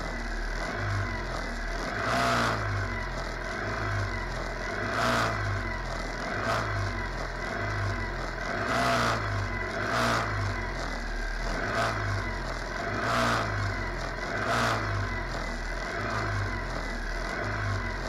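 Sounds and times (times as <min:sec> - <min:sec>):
buggy engines idling: 0:00.0 - 0:18.0
engine throttle blips: 0:00.0 - 0:18.0.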